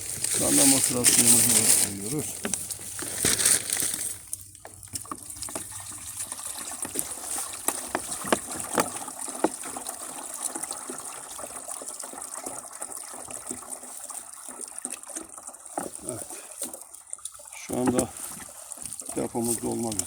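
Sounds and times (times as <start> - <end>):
water pouring into a tank: 0.0 - 20.0.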